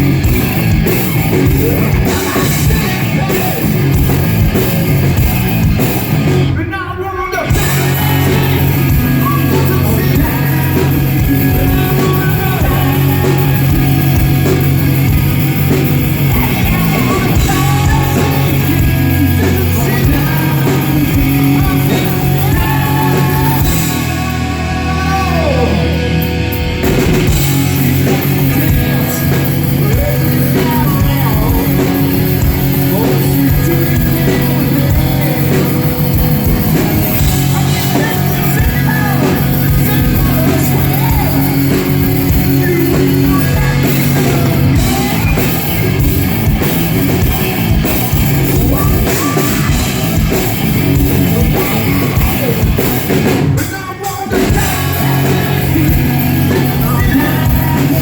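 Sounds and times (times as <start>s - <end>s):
distorted electric guitar: 0.0s - 58.0s
drum kit: 0.0s - 58.0s
person singing: 1.2s - 4.2s, 6.5s - 26.3s, 27.2s - 58.0s.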